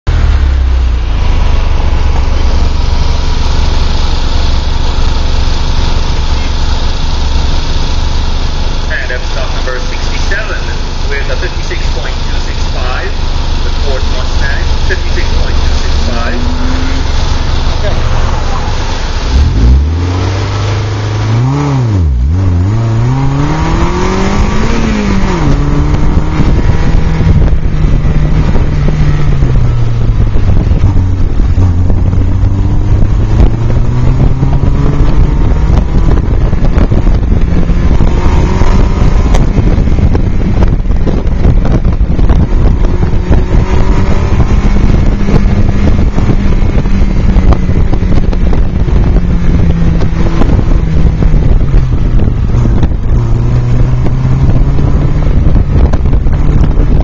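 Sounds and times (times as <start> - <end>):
car engine revving: 0.0 - 57.0
wind rushing: 0.3 - 57.0.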